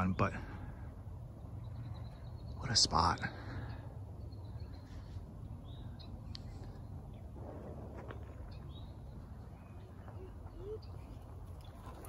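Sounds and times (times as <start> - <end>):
birds chirping faintly: 0.0 - 12.0
steady low rumble: 0.0 - 12.0.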